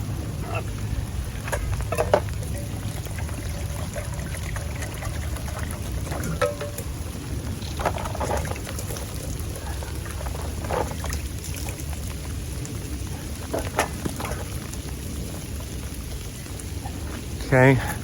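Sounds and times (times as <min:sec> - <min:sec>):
low rumble: 0:00.0 - 0:17.4
steady rain falling: 0:00.0 - 0:18.0.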